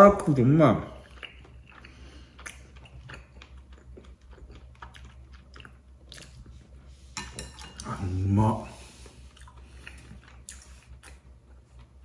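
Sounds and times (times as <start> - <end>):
person chewing food: 0.9 - 12.0.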